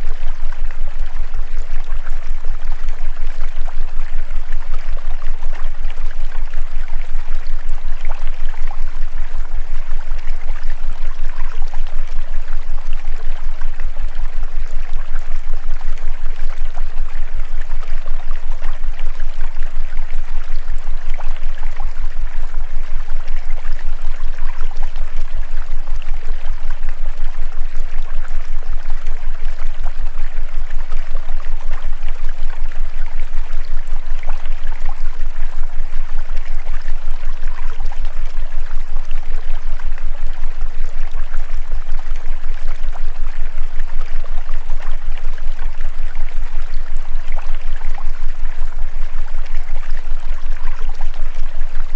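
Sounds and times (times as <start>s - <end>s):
pulsing low hum: 0.0s - 51.9s.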